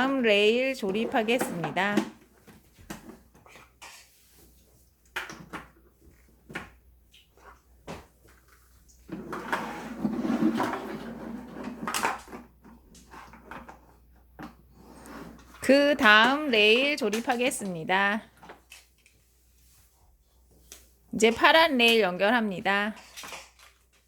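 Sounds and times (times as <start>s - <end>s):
plastic rubbing and rattling: 0.0s - 19.3s, 22.9s - 24.0s.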